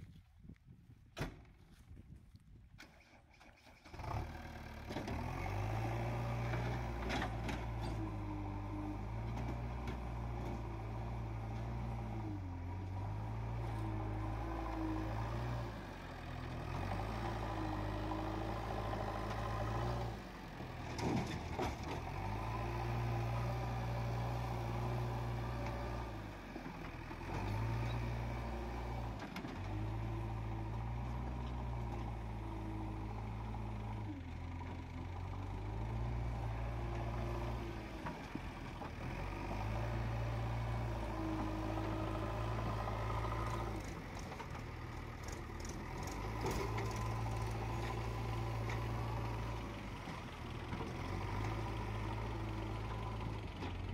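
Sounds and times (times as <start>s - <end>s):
diesel engine running: 3.8s - 53.9s.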